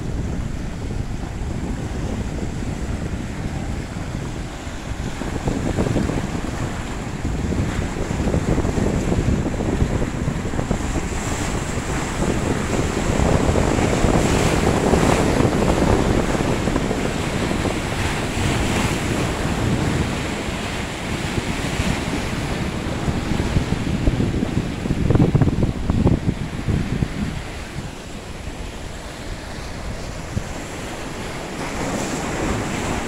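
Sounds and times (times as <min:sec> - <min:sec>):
waves washing against rocks: 0:00.0 - 0:33.0
wind on the microphone: 0:00.0 - 0:33.0.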